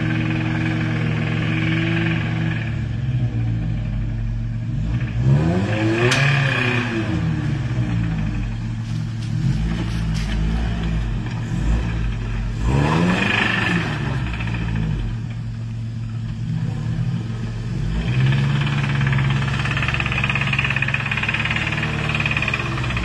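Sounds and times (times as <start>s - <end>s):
engine running and revving: 0.0s - 23.0s.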